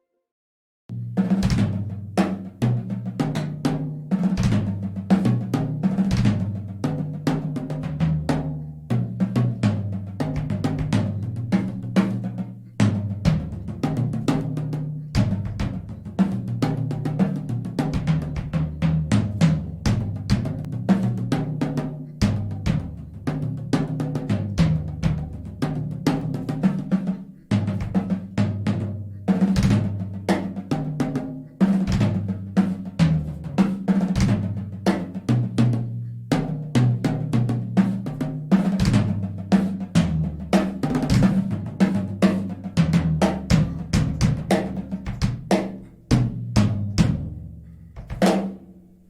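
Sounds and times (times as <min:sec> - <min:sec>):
fast drum kit playing: 0:00.9 - 0:48.8.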